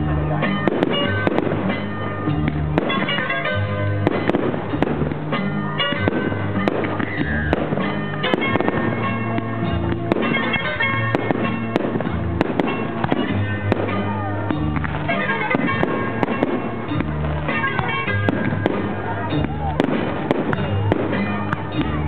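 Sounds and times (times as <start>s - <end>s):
fireworks bursting: 0.0s - 22.0s
loud music: 0.0s - 22.0s.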